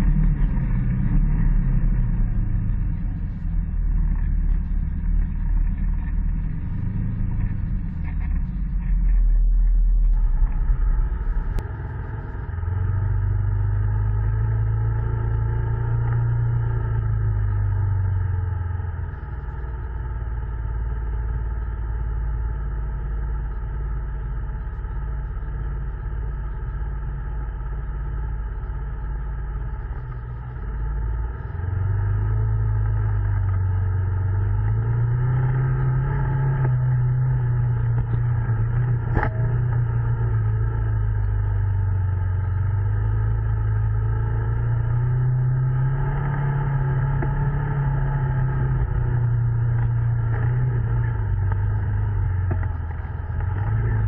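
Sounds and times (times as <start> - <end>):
utility vehicle engine revving: 0.0 - 54.0.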